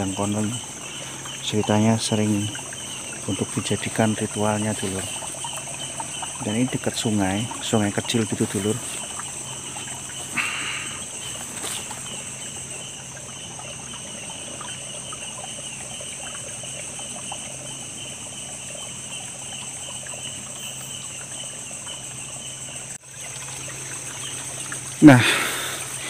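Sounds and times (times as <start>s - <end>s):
insect high buzz: 0.0s - 26.0s
insects trilling: 0.0s - 26.0s
small stream trickling: 0.0s - 26.0s.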